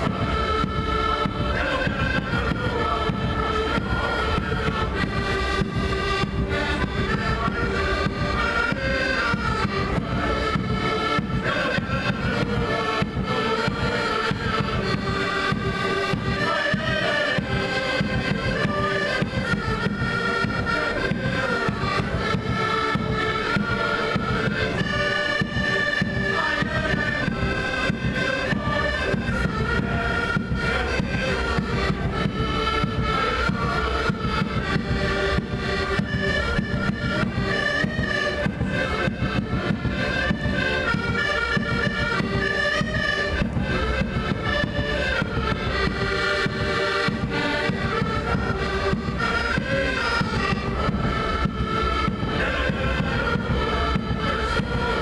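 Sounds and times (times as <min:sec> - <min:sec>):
reed instruments playing melody: 0:00.0 - 0:55.0
steady drum beat: 0:00.0 - 0:55.0.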